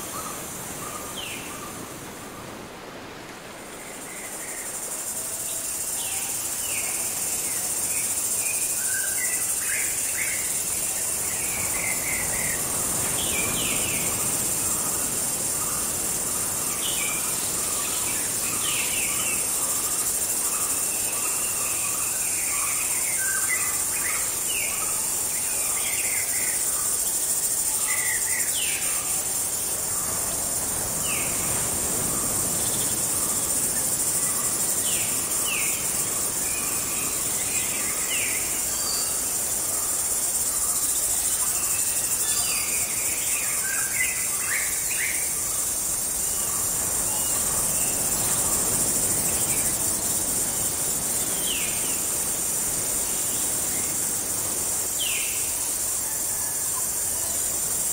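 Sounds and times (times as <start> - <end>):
high-pitched insect chorus: 0.0 - 57.9.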